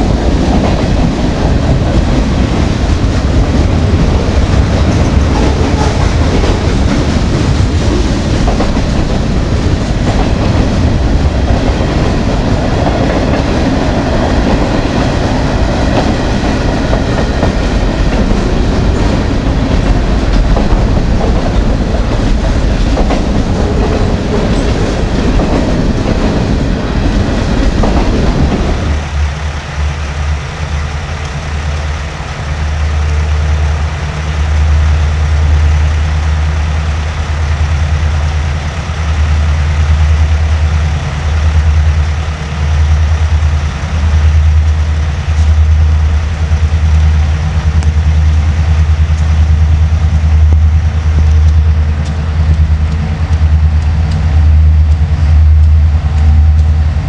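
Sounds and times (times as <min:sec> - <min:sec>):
freight train cars clattering: 0:00.0 - 0:57.0.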